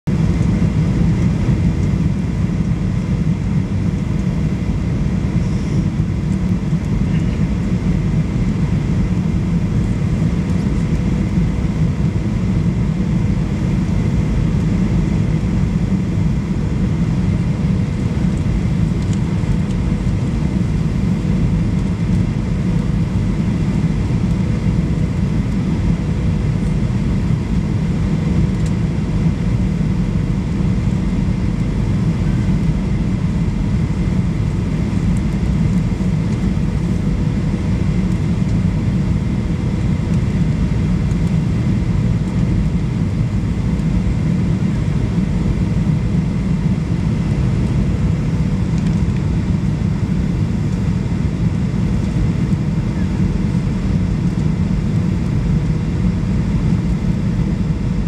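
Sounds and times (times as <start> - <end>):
airliner cabin rumble: 0.0 - 58.0
faint steady hum: 0.1 - 58.0.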